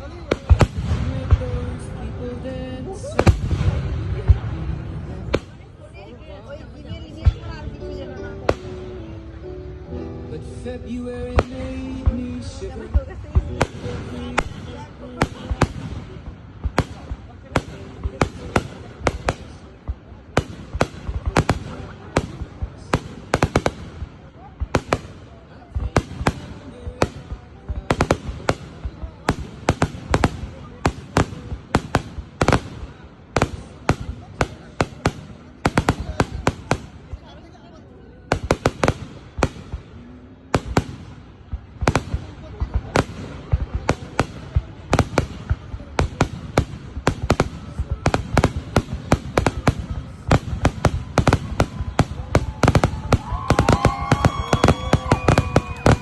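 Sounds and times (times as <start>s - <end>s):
fireworks bangs: 0.0s - 6.0s, 10.4s - 37.6s, 38.3s - 56.0s.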